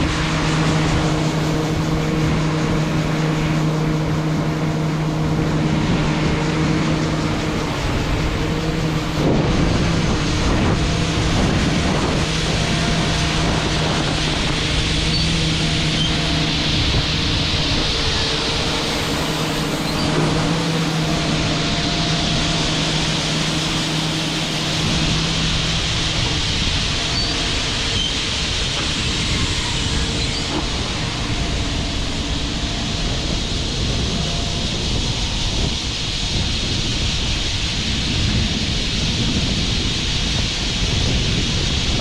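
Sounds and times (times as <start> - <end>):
loud rushing noise: 0.0 - 42.0
machinery engine hum: 0.0 - 42.0.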